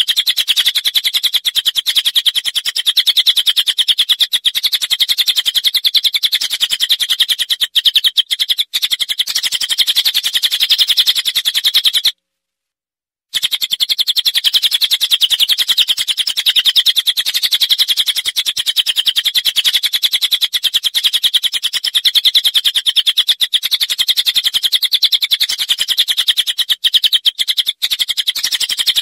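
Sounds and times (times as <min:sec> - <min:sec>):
songbird chirping rapidly: 0:00.0 - 0:12.1, 0:13.4 - 0:29.0.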